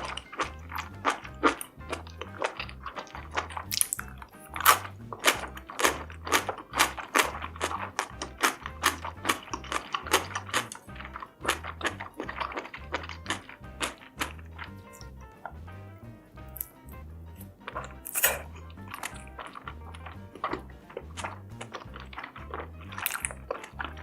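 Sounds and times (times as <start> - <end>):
biting and chewing clicks: 0.0 - 15.7, 16.4 - 24.0
background music with bass beat: 0.0 - 24.0.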